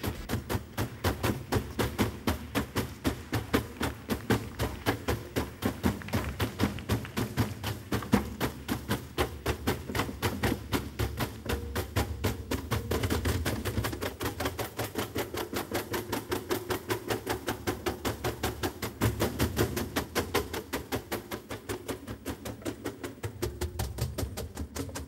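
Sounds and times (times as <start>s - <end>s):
hand drumming on wooden box drums: 0.0s - 25.0s.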